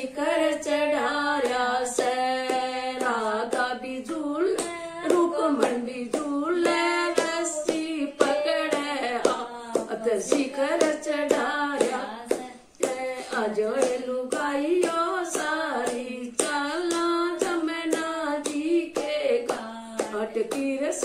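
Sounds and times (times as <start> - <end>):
woman singing: 0.0 - 21.0
hands clapping in time: 1.4 - 21.0.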